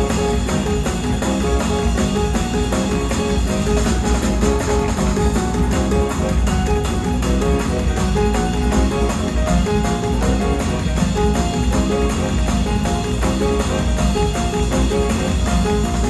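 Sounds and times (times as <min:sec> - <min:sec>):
band playing instrumental: 0:00.0 - 0:16.0.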